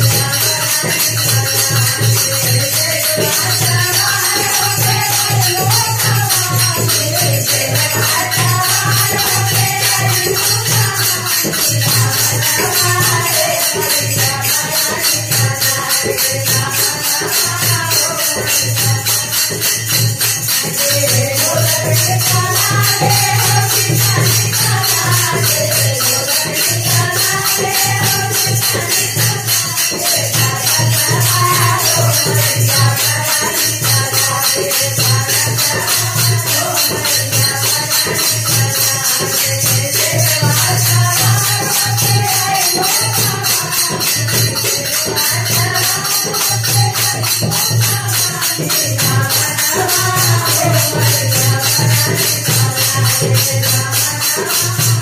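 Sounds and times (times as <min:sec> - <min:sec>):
jingling hand percussion beat: 0:00.0 - 0:55.0
woman singing into a microphone: 0:00.0 - 0:55.0.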